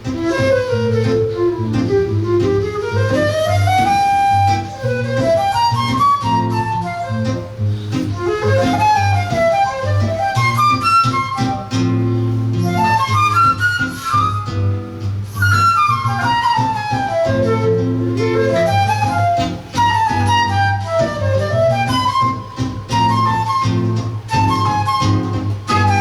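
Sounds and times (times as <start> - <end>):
flute playing quick runs: 0.0 - 26.0.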